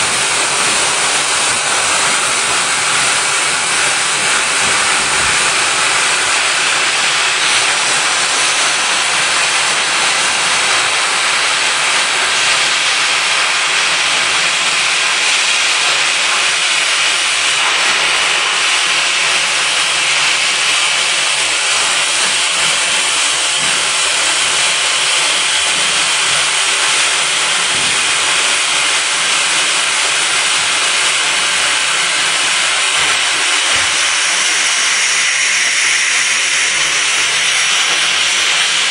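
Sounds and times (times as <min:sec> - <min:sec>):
welding machine hissing: 0:00.0 - 0:38.9.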